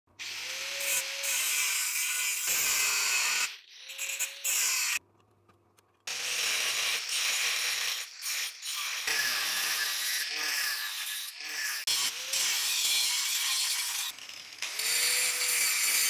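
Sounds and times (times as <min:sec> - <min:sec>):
angle grinder grinding steel: 0:00.2 - 0:05.0, 0:06.1 - 0:16.0.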